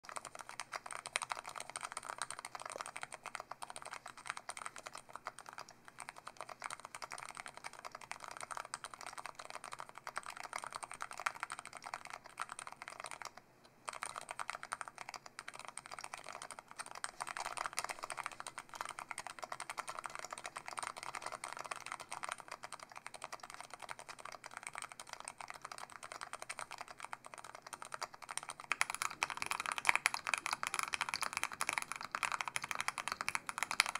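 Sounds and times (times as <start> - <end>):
keyboard typing: 0.0 - 33.9.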